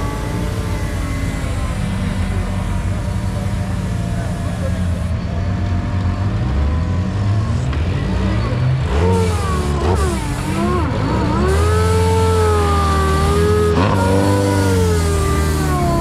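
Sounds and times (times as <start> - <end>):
buggy engine revving under load: 0.0 - 16.0.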